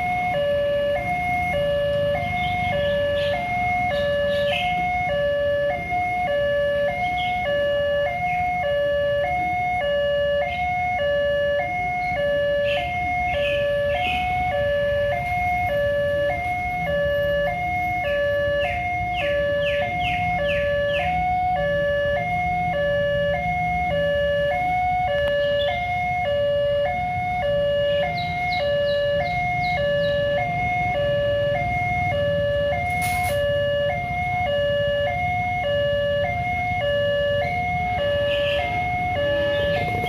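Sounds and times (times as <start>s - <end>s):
level crossing two-tone alarm: 0.0s - 40.0s.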